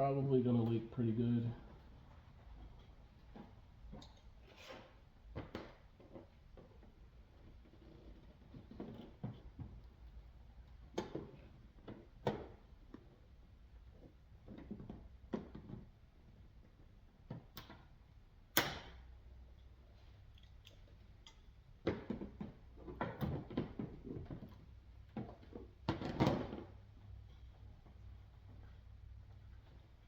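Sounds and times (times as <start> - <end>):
faint clicks and knocks of hose: 1.5 - 4.4, 5.3 - 30.0.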